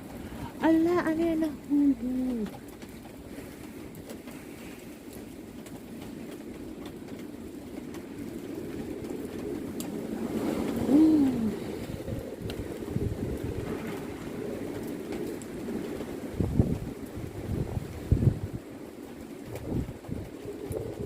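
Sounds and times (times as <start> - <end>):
strong gusting wind: 0.0 - 21.0.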